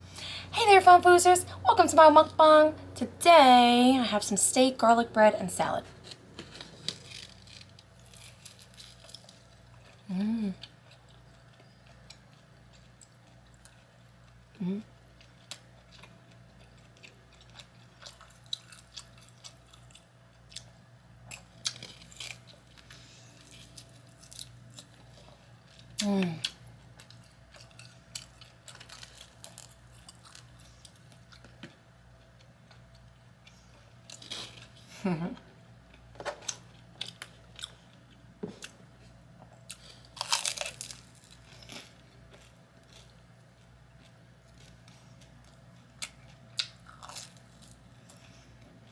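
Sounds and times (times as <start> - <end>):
person chewing food: 5.9 - 48.9.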